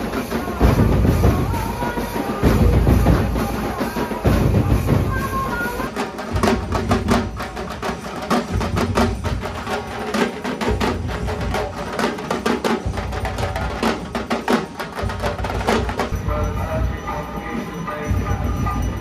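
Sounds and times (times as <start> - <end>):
fast dense drum strikes: 0.0 - 16.5
loud music with heavy drums: 0.0 - 19.0.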